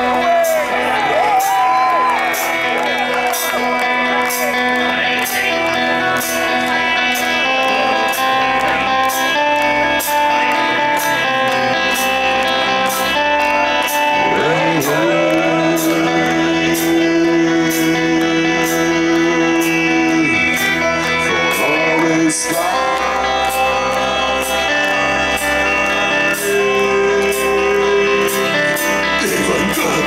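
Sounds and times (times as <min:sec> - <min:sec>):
metal band playing live: 0:00.0 - 0:30.0
sustained guitar chords: 0:00.0 - 0:30.0.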